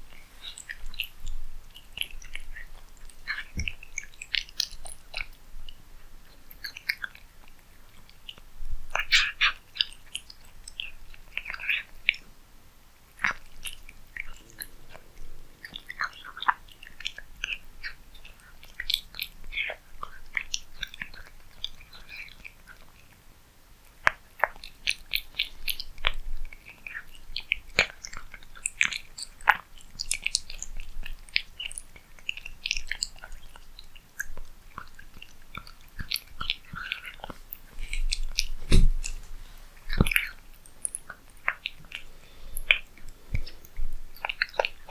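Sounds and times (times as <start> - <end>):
cat chewing and crunching food: 0.0 - 44.9.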